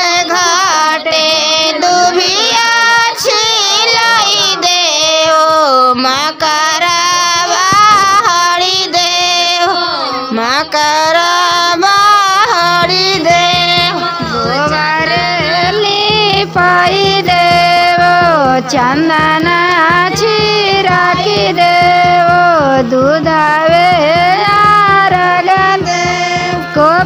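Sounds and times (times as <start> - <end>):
high voice singing: 0.0 - 27.0
steady rhythmic beat: 0.0 - 27.0.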